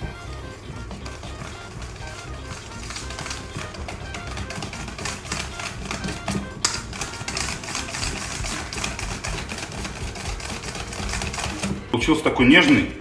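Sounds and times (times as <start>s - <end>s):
whisk clicking against metal bowl: 0.9s - 12.0s.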